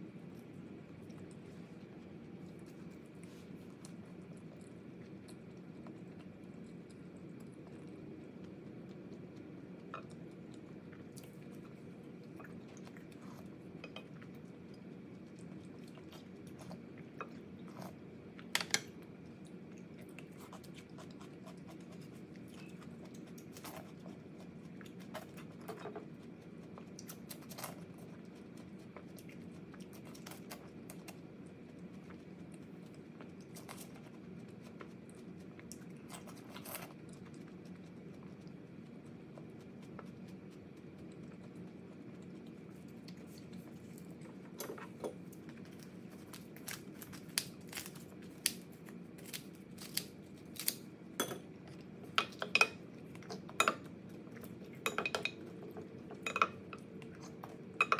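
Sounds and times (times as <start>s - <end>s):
low background hum: 0.0s - 57.9s
person chewing food: 0.0s - 57.9s.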